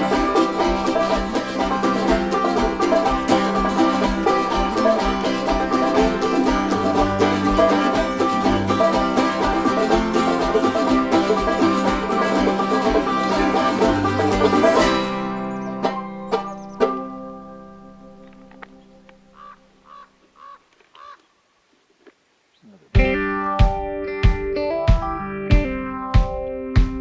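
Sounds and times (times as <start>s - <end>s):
fast banjo picking: 0.0s - 18.3s, 23.0s - 27.0s.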